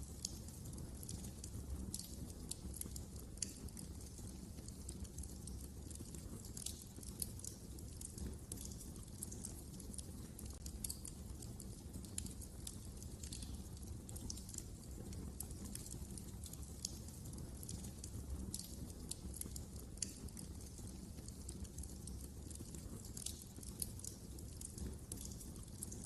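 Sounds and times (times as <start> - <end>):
fire crackling in a fireplace: 0.0 - 26.0.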